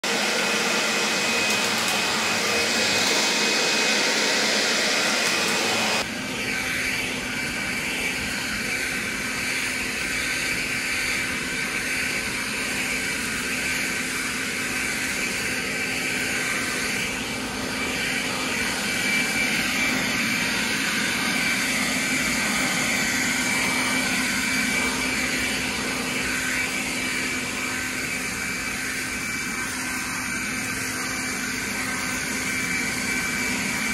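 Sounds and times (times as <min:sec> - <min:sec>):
leaf blower running: 0:00.0 - 0:33.9.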